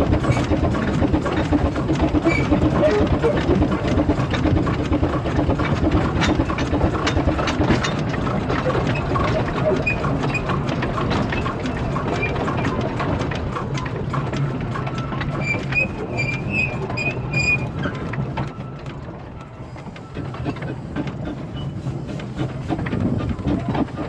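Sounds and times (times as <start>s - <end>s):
steam locomotive running: 0.0s - 24.0s
wheels clicking on track: 0.0s - 24.0s.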